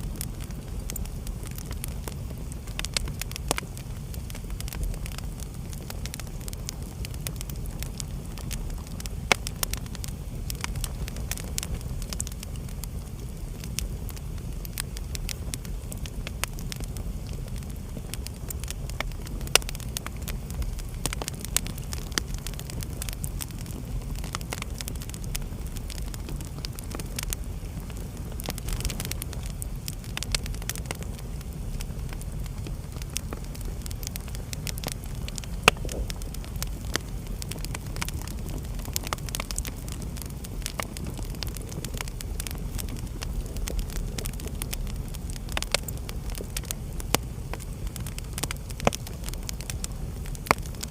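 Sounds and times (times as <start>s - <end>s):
fire crackling in a fireplace: 0.0s - 50.9s.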